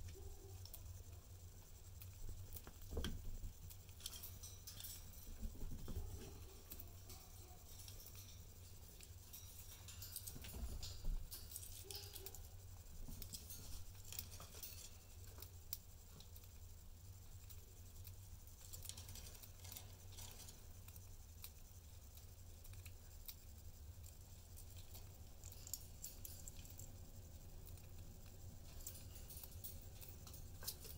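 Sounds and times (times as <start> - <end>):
budgies pecking in cage: 0.0 - 30.9.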